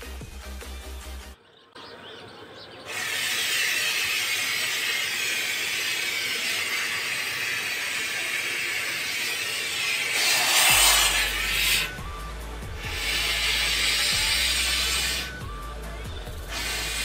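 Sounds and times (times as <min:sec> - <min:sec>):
gas hissing from hose: 0:02.9 - 0:17.0.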